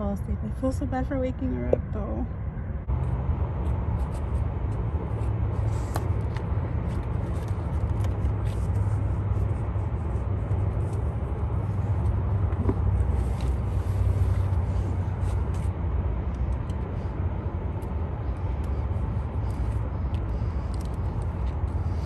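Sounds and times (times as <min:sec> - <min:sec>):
air conditioning blowing: 0:00.0 - 0:22.0
road and engine rumble: 0:00.0 - 0:22.0.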